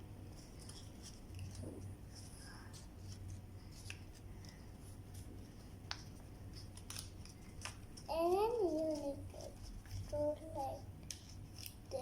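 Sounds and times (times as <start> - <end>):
low steady hum: 0.0 - 12.0
paper rustling and crinkling: 0.2 - 12.0.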